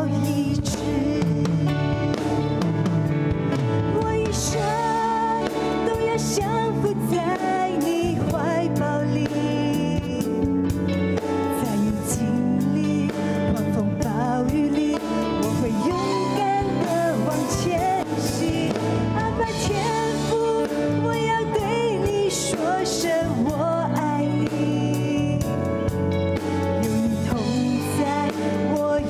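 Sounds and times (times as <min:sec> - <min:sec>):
woman singing into microphone: 0:00.0 - 0:02.3, 0:03.8 - 0:29.0
live band playing: 0:00.0 - 0:29.0.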